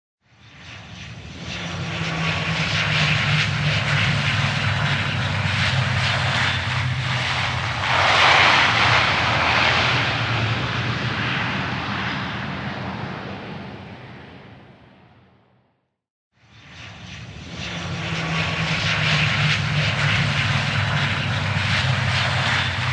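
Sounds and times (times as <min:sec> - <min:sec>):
airplane landing: 0:00.3 - 0:15.6, 0:16.4 - 0:22.9.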